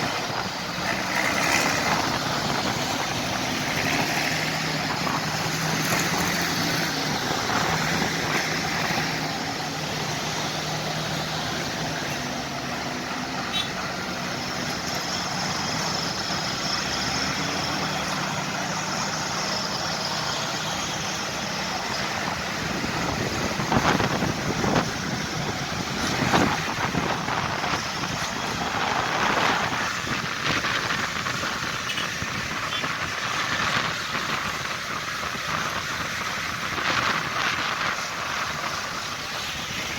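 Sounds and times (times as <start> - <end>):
rough uneven noise: 0.0 - 39.9
tractor engines droning: 0.0 - 39.9.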